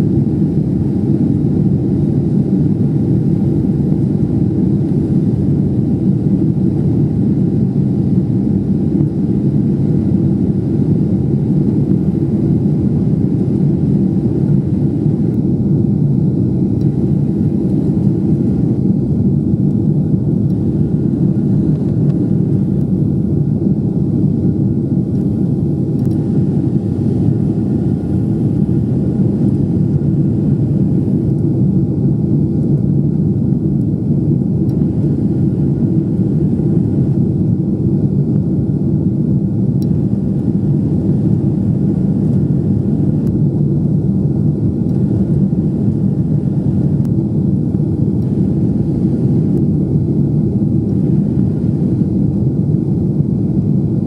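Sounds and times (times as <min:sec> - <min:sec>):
aircraft cabin drone: 0:00.0 - 0:54.0
faint steady whine: 0:00.0 - 0:54.0.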